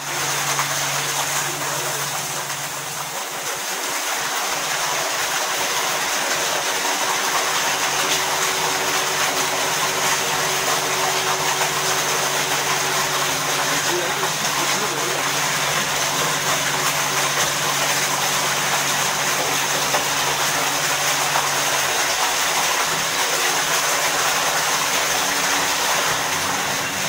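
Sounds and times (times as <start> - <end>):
pump humming: 0.0 - 27.0
water swirling into pump: 0.0 - 27.0.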